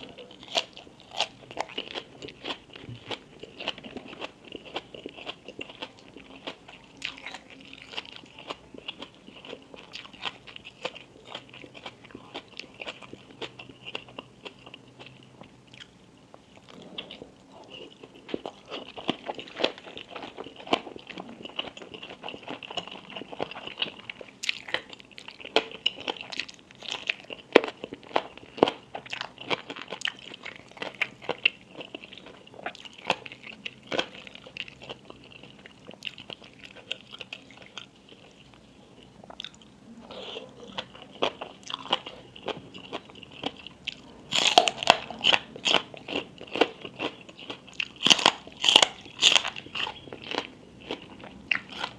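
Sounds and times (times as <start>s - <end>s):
chewing and crunching food: 0.0s - 51.9s.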